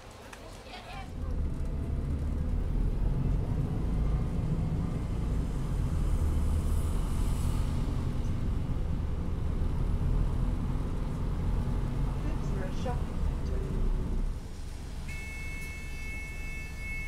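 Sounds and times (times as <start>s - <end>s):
city street traffic rumble: 0.0s - 17.0s
vehicle engine running: 1.1s - 15.1s.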